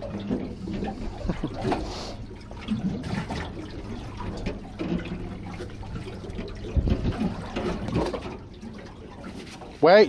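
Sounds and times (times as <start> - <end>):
water sloshing against hull: 0.0 - 10.0.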